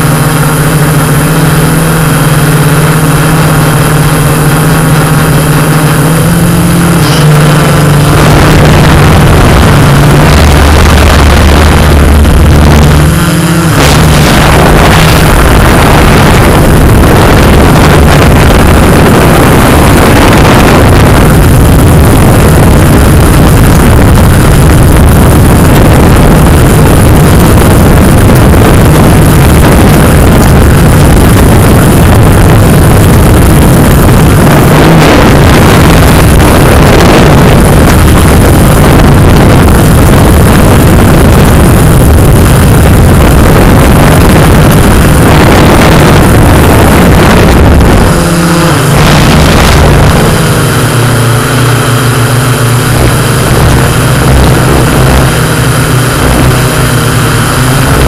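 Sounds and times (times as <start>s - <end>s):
drone propellers humming: 0.0s - 58.0s.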